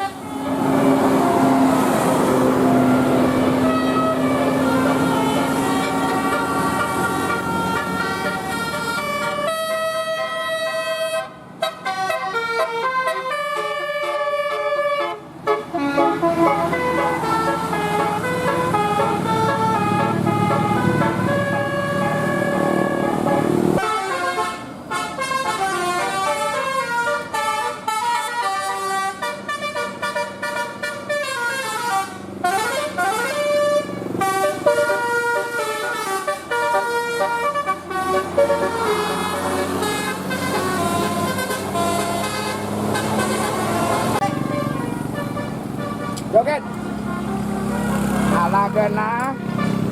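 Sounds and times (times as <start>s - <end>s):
musical bus air horn: 0.0s - 49.9s.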